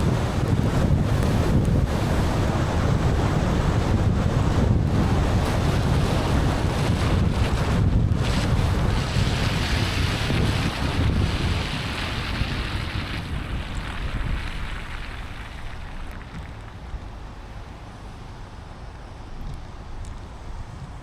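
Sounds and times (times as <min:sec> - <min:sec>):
rain: 0:00.0 - 0:17.8
tyres hissing on wet road: 0:00.0 - 0:18.5
low car rumble: 0:00.0 - 0:21.0.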